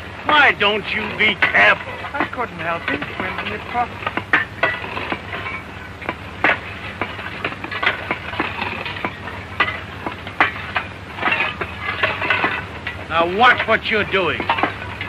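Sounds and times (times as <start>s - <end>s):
film soundtrack hiss and hum: 0.0s - 15.0s.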